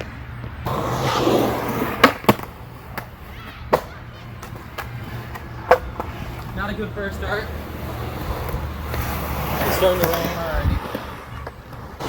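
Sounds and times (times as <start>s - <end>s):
skateboard clacking on ground: 0.0s - 12.0s
skateboard wheels rolling on pavement: 0.0s - 12.0s.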